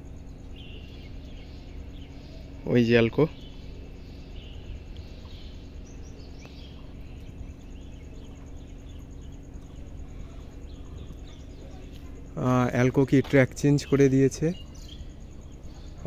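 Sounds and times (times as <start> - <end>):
distant diesel locomotive hum: 0.0 - 16.0
faint bird chirps: 0.0 - 16.0.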